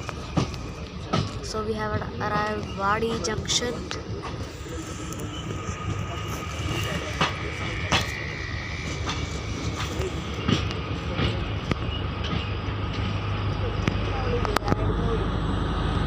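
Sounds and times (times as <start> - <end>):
wheels clacking on rails: 0.0 - 15.2
train rumbling on track: 0.0 - 16.0.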